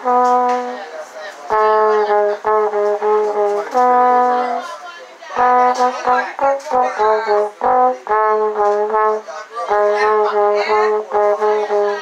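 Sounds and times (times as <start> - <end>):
trombone melody: 0.0 - 4.8, 5.4 - 12.0.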